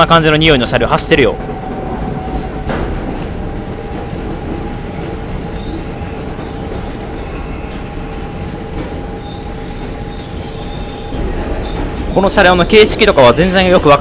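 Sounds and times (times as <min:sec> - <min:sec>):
steady high whine: 0:00.0 - 0:14.0
subway wheels rumbling on track: 0:00.0 - 0:14.0.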